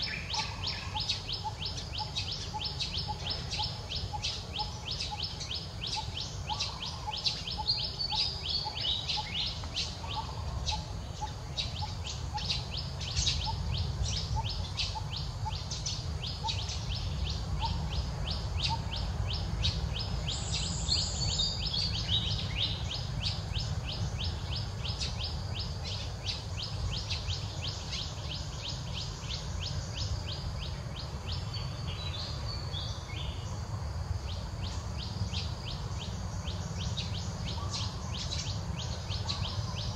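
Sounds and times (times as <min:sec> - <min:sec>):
high chirping calls: 0:00.0 - 0:33.6, 0:34.2 - 0:39.9
low outdoor rumble: 0:00.0 - 0:39.9.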